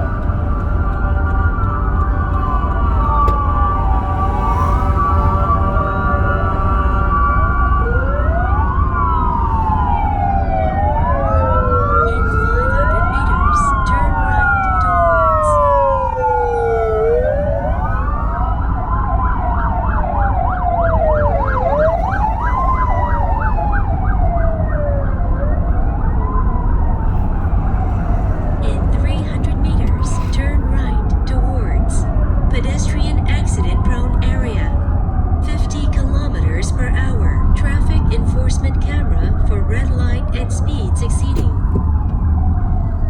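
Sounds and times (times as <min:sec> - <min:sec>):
emergency vehicle sirens wailing: 0:00.0 - 0:43.0
low rumble of moving car: 0:00.0 - 0:43.0.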